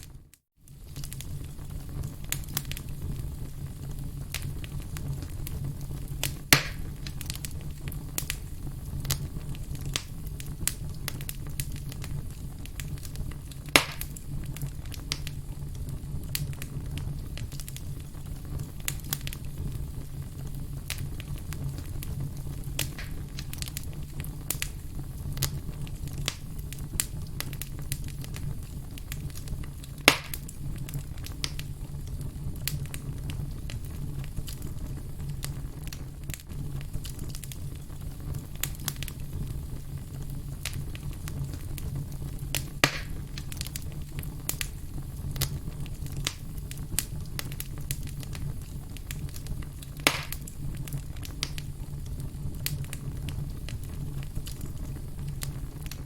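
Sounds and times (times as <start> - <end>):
campfire crackling: 0.0 - 56.0
sharp fire pops: 0.0 - 56.0.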